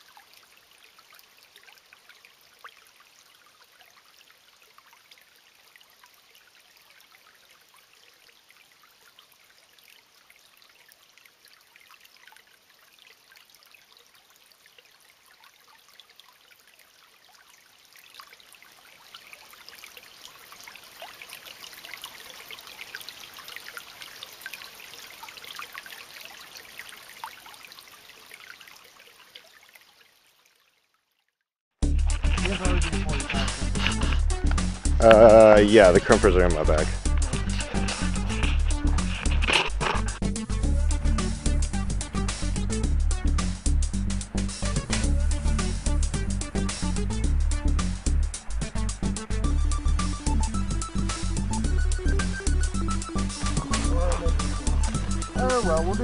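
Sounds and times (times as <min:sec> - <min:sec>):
creek water running over stones: 0:00.0 - 0:56.0.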